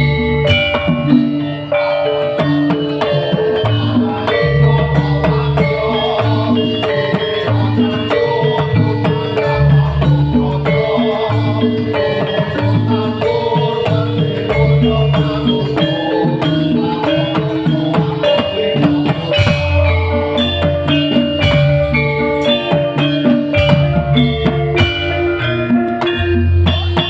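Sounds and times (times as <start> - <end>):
drums: 0.0 - 27.0
hand percussion: 0.0 - 27.0
held melodic notes: 0.0 - 27.0
bass line: 3.7 - 27.0.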